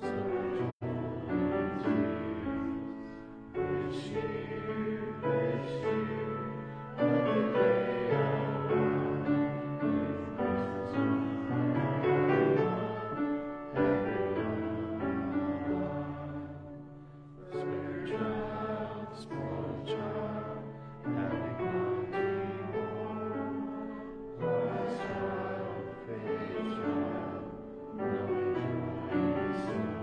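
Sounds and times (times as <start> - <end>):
congregation singing a hymn: 0.0 - 30.0
piano accompaniment: 0.0 - 30.0.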